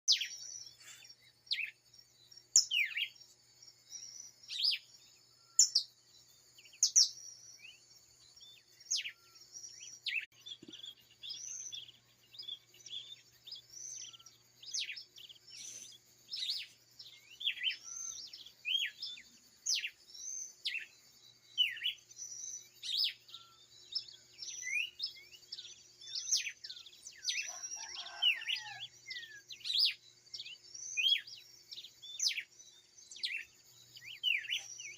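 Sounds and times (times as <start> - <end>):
birds chirping and whistling: 0.1 - 1.8, 2.4 - 34.9
lower bird calls: 0.1 - 34.9.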